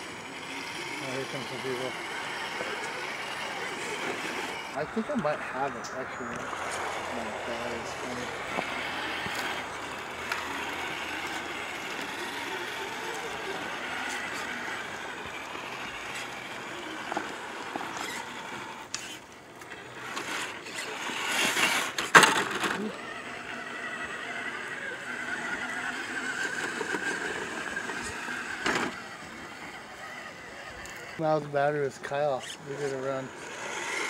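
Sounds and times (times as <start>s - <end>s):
electric motors whining: 0.0s - 34.0s.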